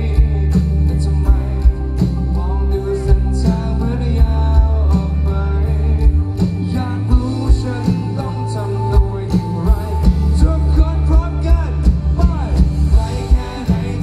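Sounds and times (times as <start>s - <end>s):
live rock band playing: 0.0s - 14.0s
man singing: 0.0s - 14.0s.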